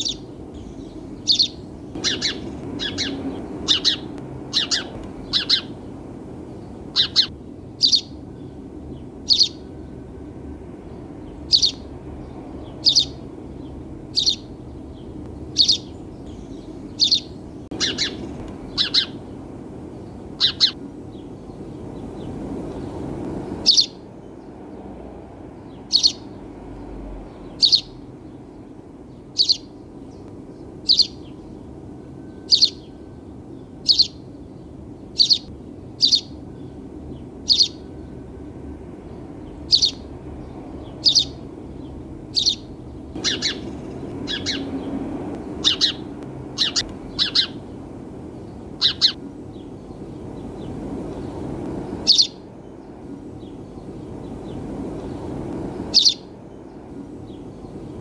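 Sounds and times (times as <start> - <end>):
sparrow chirping: 0.0 - 24.8, 25.4 - 58.0
low background noise: 0.0 - 58.0.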